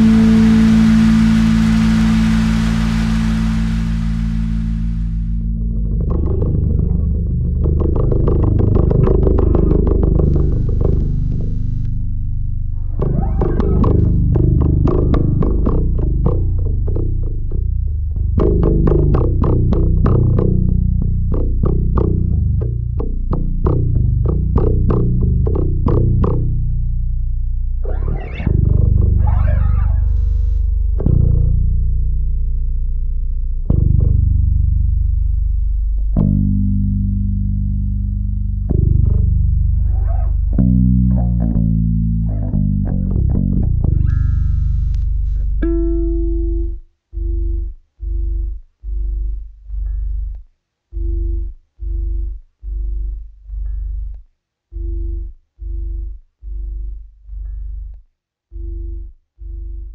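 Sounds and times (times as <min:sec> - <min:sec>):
bass guitar plucked notes: 0:00.0 - 0:59.9.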